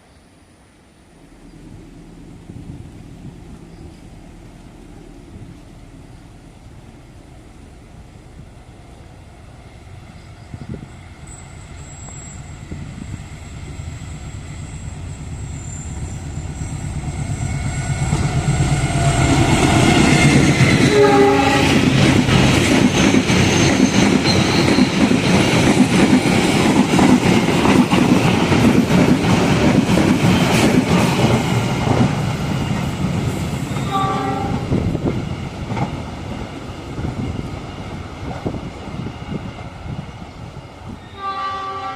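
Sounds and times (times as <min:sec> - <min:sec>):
diesel train passing: 0:00.0 - 0:41.9.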